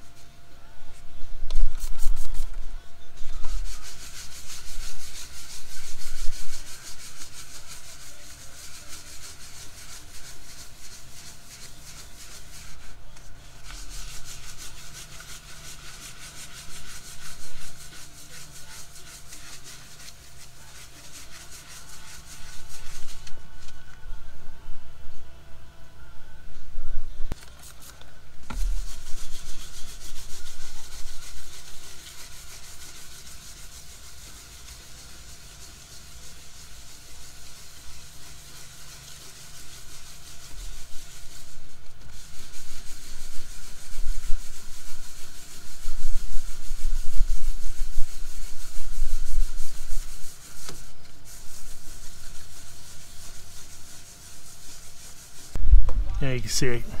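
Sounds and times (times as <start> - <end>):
sandpaper rubbing on gelcoat: 1.6 - 2.6, 3.2 - 23.8, 27.6 - 57.0.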